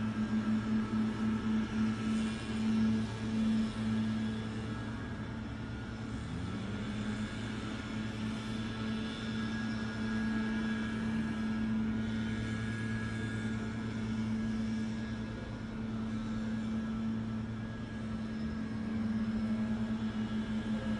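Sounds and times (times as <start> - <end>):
faint high whine: 0.0 - 20.9
low mechanical hum: 0.0 - 20.9.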